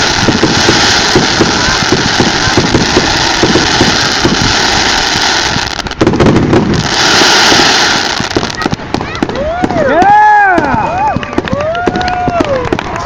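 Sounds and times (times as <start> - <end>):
fireworks bursts and crackling: 0.0 - 13.0.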